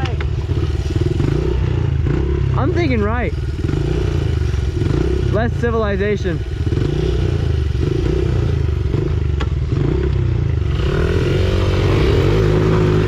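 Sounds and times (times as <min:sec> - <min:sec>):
pit bike engine revving: 0:00.0 - 0:13.0.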